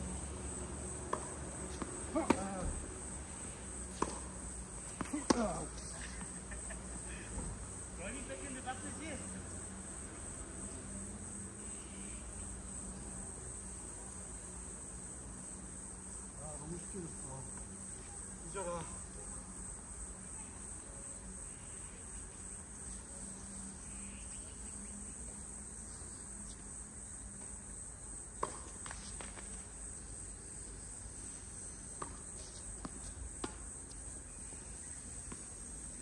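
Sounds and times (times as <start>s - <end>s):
insect chorus: 0.0s - 36.0s.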